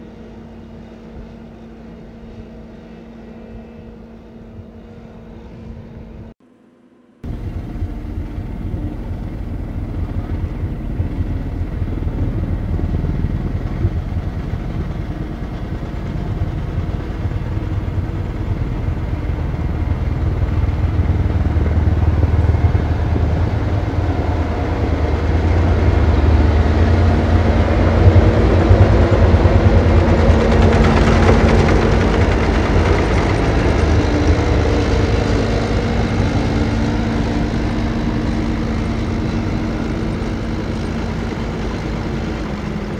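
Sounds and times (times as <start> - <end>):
steady whine: 0.0 - 42.9
tractor engine running: 7.2 - 42.9.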